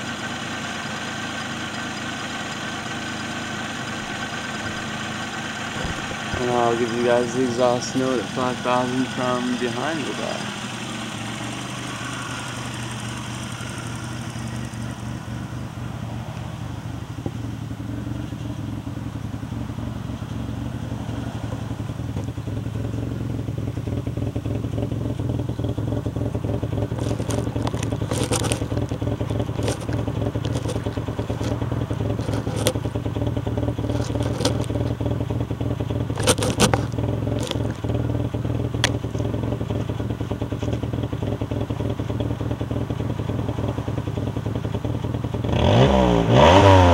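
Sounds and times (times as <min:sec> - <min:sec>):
engine exhaust at high revs: 0:00.0 - 0:46.9
exhaust crackles: 0:00.0 - 0:46.9.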